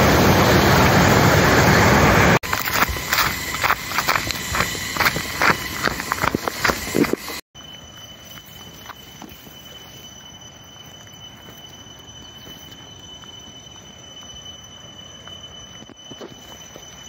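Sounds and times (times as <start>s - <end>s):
high-pitched insect drone: 2.4s - 17.0s.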